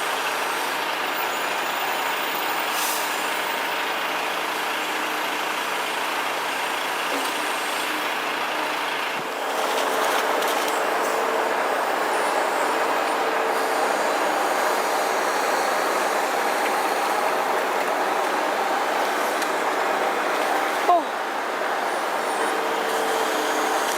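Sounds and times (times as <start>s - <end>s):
truck running: 0.0s - 23.9s.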